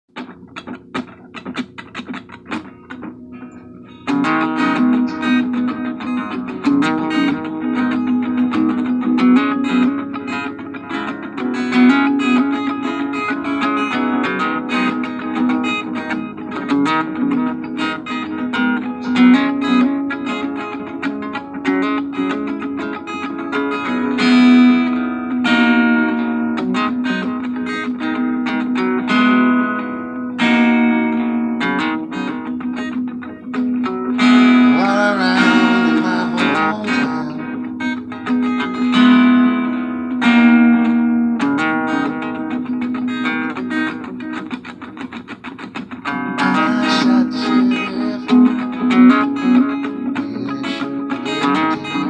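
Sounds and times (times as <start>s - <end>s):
acoustic guitar strummed and picked: 0.1s - 52.0s.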